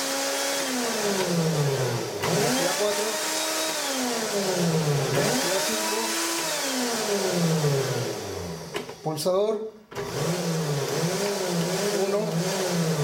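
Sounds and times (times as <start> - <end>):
blender motor spinning up and down: 0.0 - 9.1, 9.9 - 13.0.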